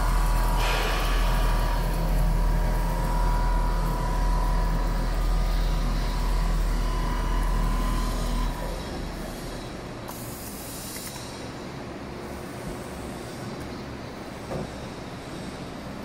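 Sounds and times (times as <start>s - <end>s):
quilting machine humming and whining: 0.0s - 16.0s.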